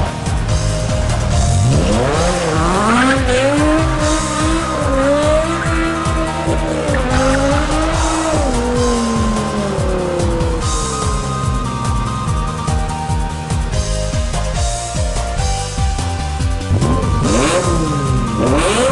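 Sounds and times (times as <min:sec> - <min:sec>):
car exhaust revving: 0:00.0 - 0:12.8, 0:16.4 - 0:18.9
background music: 0:00.0 - 0:18.9.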